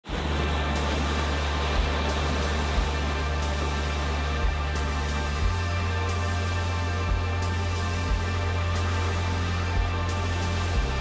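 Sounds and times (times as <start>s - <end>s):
sustained tones over deep bass: 0.1s - 11.0s.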